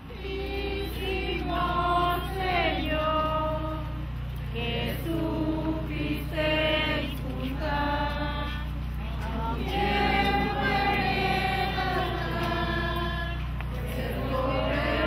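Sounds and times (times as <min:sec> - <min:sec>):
group singing a slow hymn: 0:00.0 - 0:15.0
steady low hum: 0:00.0 - 0:15.0.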